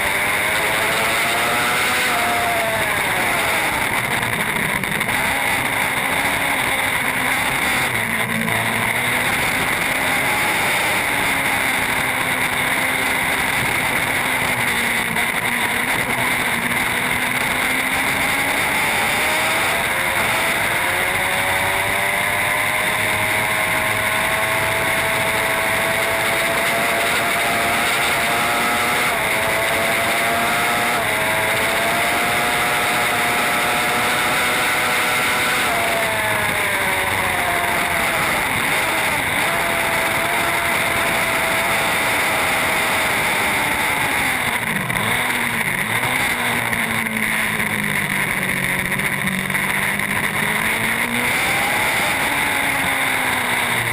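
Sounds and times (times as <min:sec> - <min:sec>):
motorcycle engine running hard: 0:00.0 - 0:53.9.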